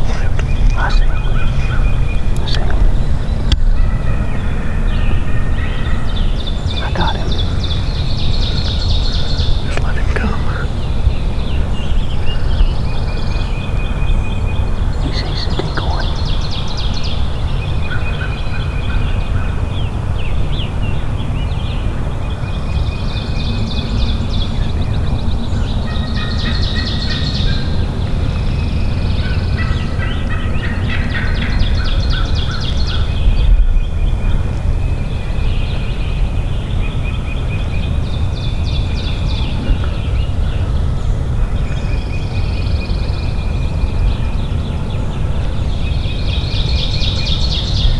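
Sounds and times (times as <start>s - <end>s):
low rumble of wind: 0.0s - 47.9s
songbirds singing and trilling: 0.0s - 47.9s.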